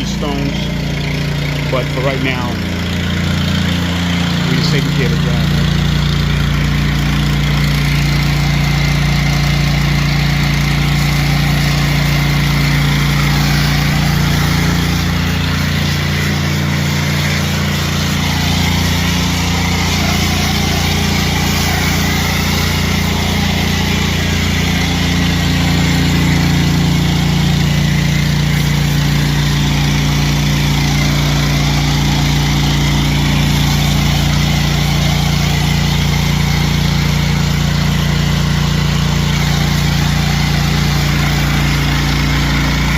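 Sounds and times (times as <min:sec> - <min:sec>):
pressure washer engine running: 0:00.0 - 0:42.9
water spray hiss: 0:06.4 - 0:42.9.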